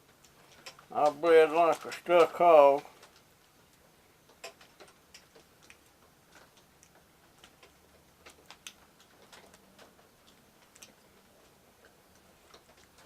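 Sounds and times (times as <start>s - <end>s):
blade clicking along wire: 0.0s - 13.0s.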